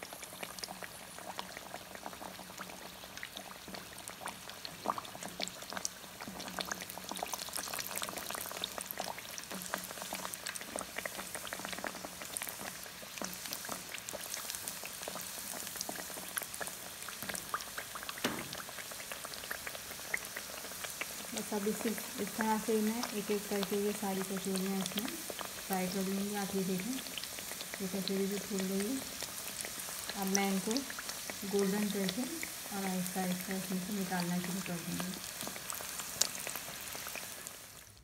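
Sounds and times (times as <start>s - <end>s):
deep-frying sizzle and crackle: 0.0s - 38.0s.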